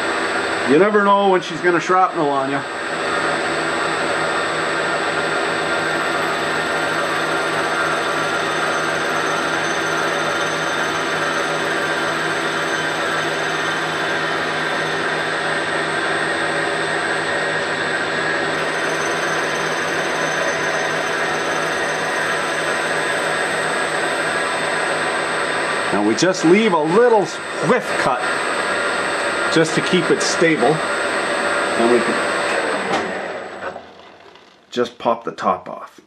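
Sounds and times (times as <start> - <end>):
milling machine whine: 0.0 - 34.7.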